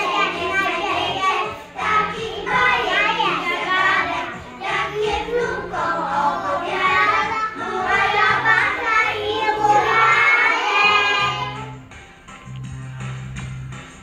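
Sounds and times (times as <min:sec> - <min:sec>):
children singing: 0:00.0 - 0:11.8.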